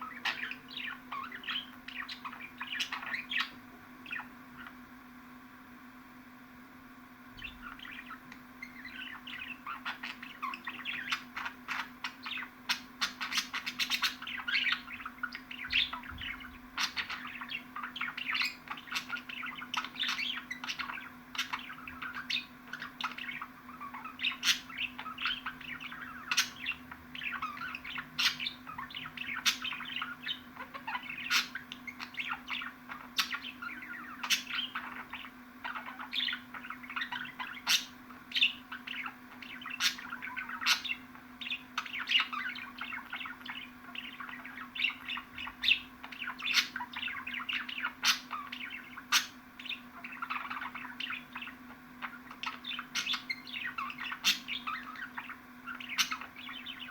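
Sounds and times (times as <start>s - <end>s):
budgerigars chattering and chirping: 0.0s - 4.8s, 7.4s - 56.9s
faint steady hum: 0.0s - 56.9s.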